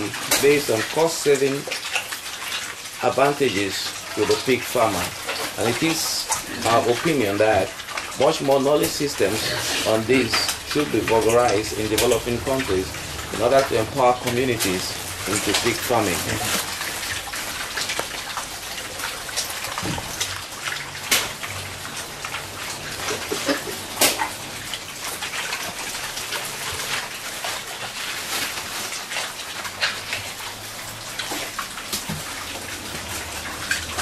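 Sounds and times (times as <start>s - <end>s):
pigs chewing and slurping: 0.0s - 34.0s.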